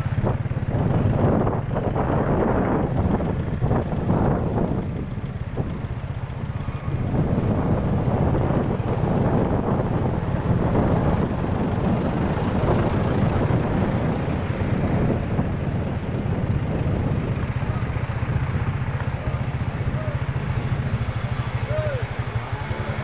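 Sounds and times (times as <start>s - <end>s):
idling truck and car engines: 0.0s - 23.0s.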